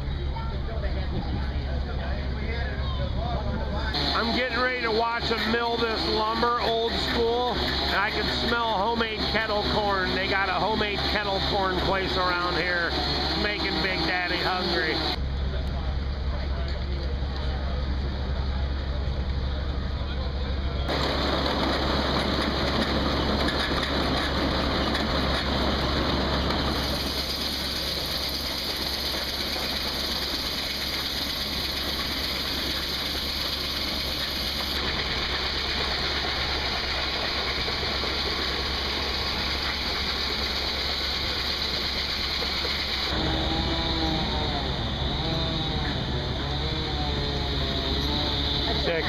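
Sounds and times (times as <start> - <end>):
sawmill machinery running: 3.8 - 16.2, 20.9 - 49.0.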